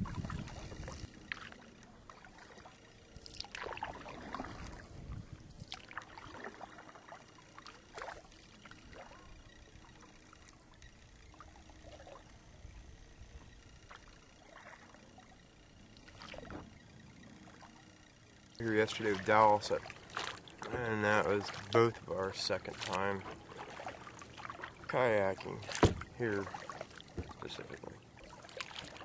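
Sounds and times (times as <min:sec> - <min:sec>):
paddle splashing and dripping: 0:00.0 - 0:29.0.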